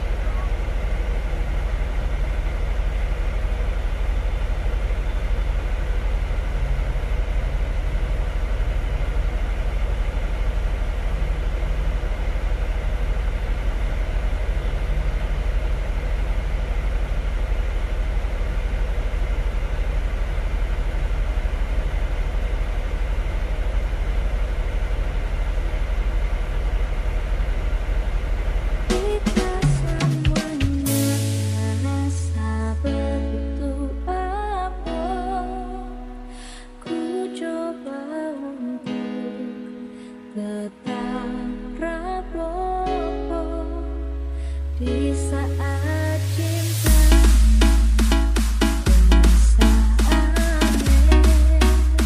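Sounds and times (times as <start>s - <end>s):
diesel truck engine idling: 0.0s - 36.8s, 41.2s - 52.0s.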